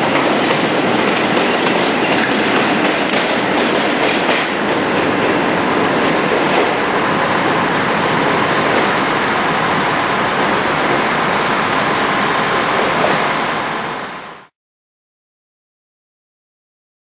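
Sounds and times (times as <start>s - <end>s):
diesel train rumbling: 0.0s - 14.5s.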